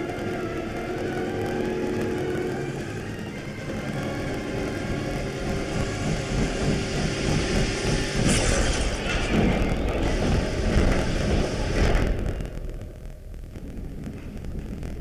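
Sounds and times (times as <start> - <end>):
sharp noisy bursts: 0.0 - 15.0
steam train rumbling and rattling: 0.0 - 15.0.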